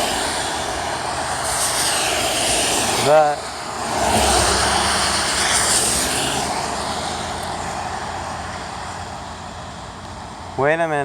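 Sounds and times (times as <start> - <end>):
passing vehicle engine: 0.0 - 10.6.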